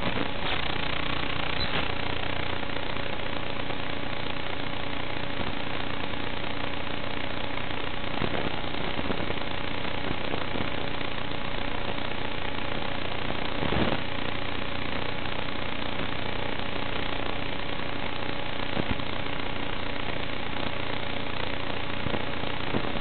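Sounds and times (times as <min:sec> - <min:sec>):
faint hum tones: 0:00.0 - 0:23.0
static hiss: 0:00.0 - 0:23.0.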